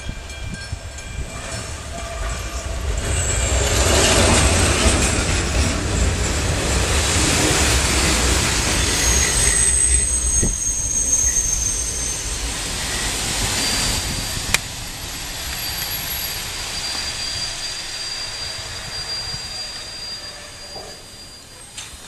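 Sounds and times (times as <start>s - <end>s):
train passing at speed: 0.0s - 22.0s
wheel squeal: 0.0s - 22.0s.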